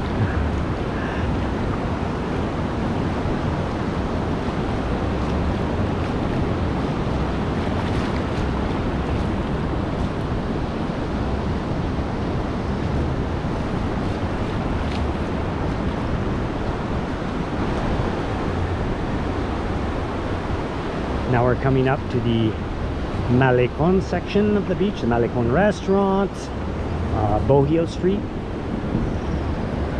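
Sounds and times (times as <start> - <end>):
ocean surf breaking: 0.0 - 29.9
wind buffeting microphone: 0.0 - 29.9.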